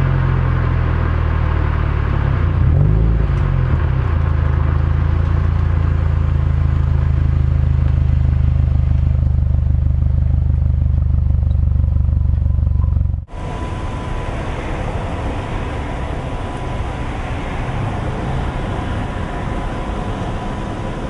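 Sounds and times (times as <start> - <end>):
car engine at cruise: 0.0 - 21.0
road noise: 0.0 - 21.0.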